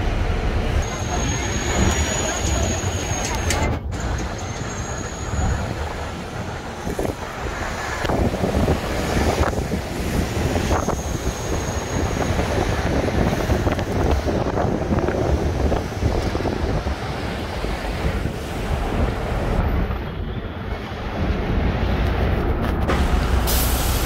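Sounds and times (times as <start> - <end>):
city street traffic: 0.0 - 24.0
wind buffeting microphone: 3.8 - 23.4.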